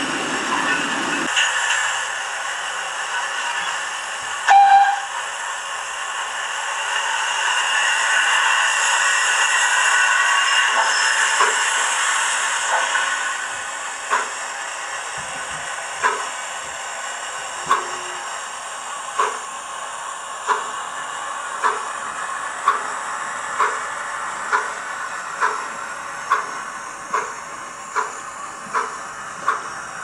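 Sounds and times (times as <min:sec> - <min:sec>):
steam hiss from speaker: 0:00.1 - 0:30.0.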